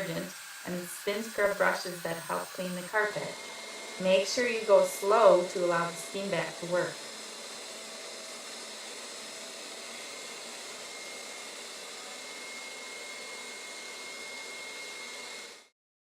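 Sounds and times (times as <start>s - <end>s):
carpet cleaner suction motor: 0.0s - 15.8s.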